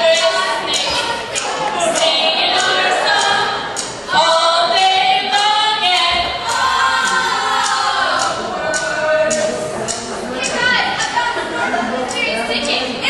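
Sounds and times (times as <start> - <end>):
group singing unaccompanied chant: 0.0 - 11.4.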